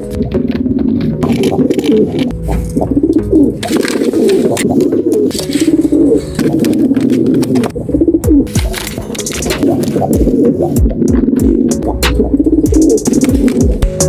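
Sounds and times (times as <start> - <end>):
pigeons cooing: 0.0 - 13.9.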